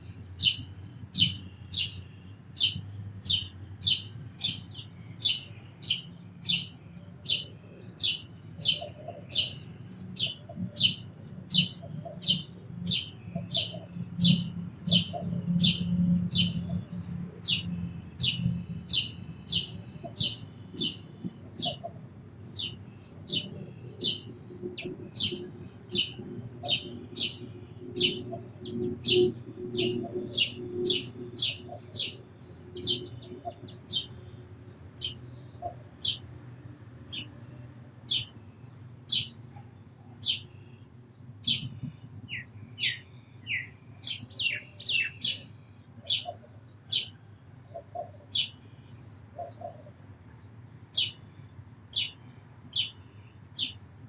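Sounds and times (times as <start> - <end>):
sparrow chirping: 0.0 - 54.0.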